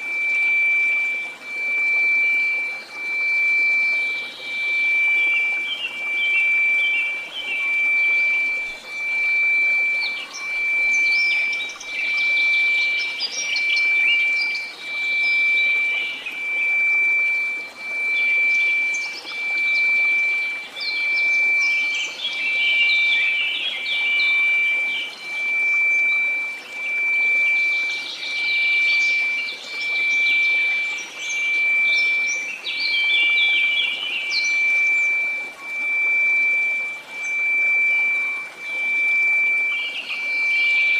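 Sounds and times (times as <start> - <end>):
birdsong chirps: 0.0 - 40.9
synthesized pure tone: 0.0 - 40.9.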